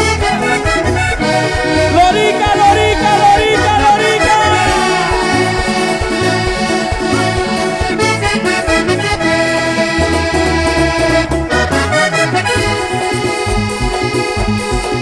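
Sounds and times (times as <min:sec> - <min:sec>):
bass line: 0:00.0 - 0:15.0
button accordion melody: 0:00.0 - 0:15.0.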